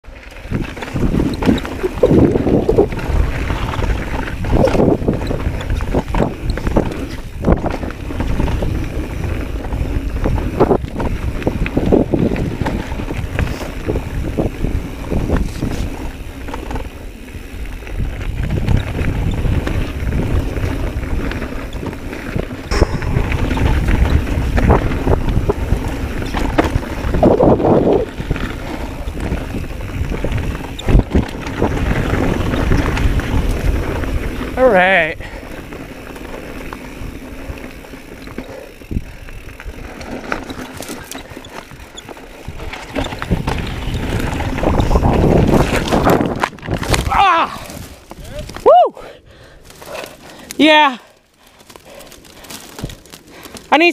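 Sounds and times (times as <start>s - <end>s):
bike knocks and rattles: 0.3s - 34.6s, 37.7s - 48.6s
wind rush on microphone: 0.3s - 50.7s.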